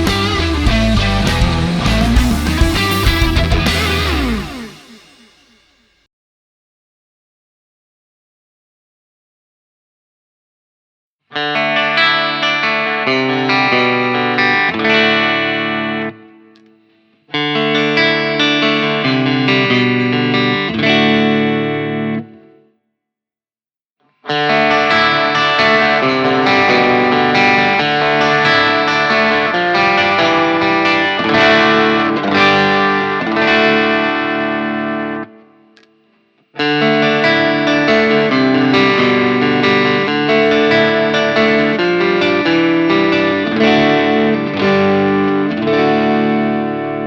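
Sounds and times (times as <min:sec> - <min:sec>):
overdriven electric guitar riff: 0:00.0 - 0:05.8, 0:11.3 - 0:22.6, 0:24.2 - 0:47.0.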